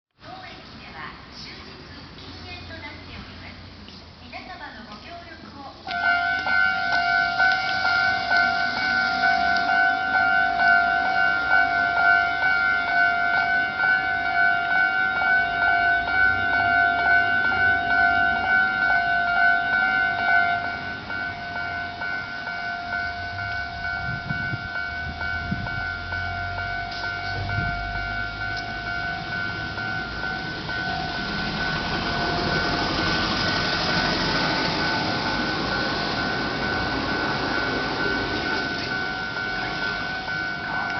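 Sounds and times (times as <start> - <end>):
level-crossing warning bell: 4.9 - 40.9
rushing noise: 6.0 - 40.9.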